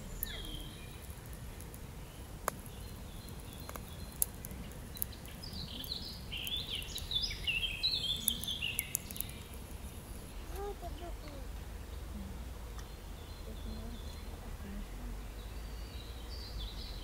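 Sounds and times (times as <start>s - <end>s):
bird chirping: 0.0s - 17.0s
campfire crackling: 0.0s - 17.0s.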